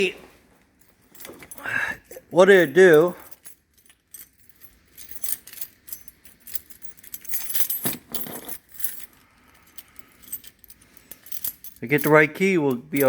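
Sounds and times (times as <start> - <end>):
keys jangling: 0.8 - 13.0.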